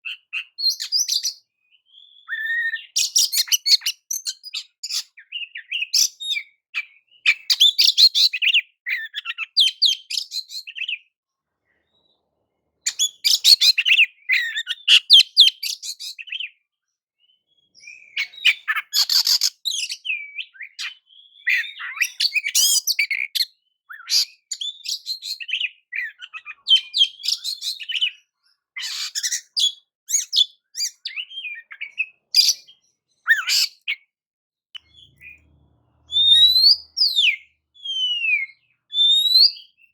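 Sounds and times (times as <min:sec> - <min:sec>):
bird singing whistles and chirps: 0:00.0 - 0:11.1, 0:12.9 - 0:16.6, 0:17.2 - 0:34.1, 0:34.8 - 0:39.9.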